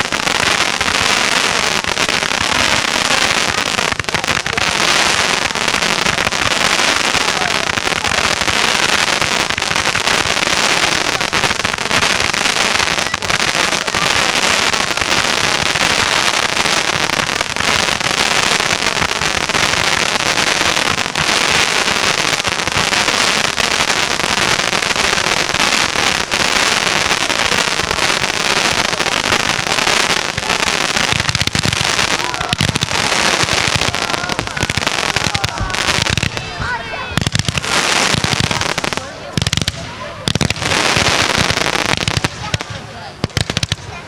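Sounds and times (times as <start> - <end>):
fireworks crackling and banging: 0.0 - 44.0.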